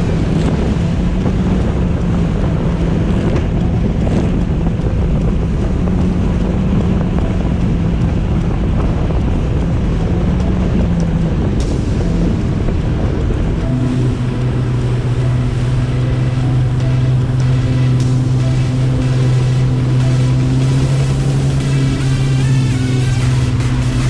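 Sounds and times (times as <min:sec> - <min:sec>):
jet ski engine hum: 0:00.0 - 0:24.0
wind noise on microphone: 0:00.0 - 0:24.0.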